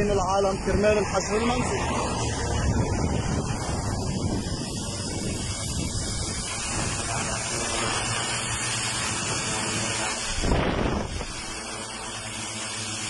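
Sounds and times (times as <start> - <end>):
drone propellers humming: 0.0 - 13.0
rotor wash hiss on microphone: 0.0 - 13.0.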